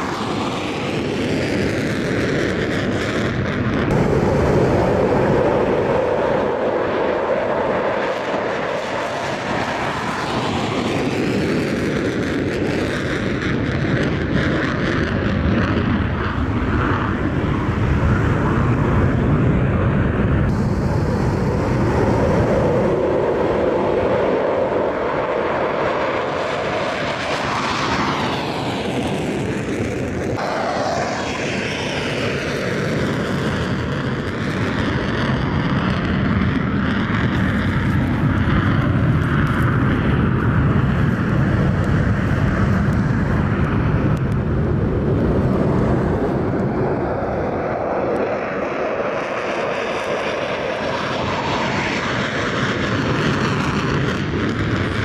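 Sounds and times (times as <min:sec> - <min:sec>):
fighter jet engines roaring: 0:00.0 - 0:55.0.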